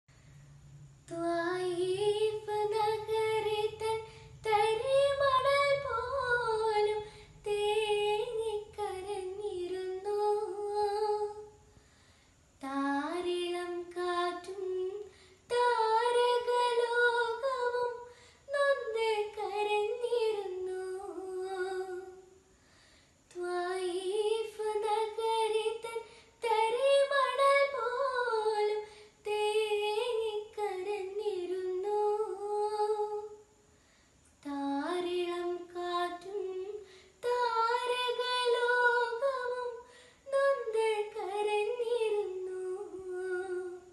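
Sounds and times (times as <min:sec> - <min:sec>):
girl singing unaccompanied: 0:01.0 - 0:11.8, 0:12.6 - 0:22.5, 0:23.3 - 0:33.6, 0:34.4 - 0:43.9.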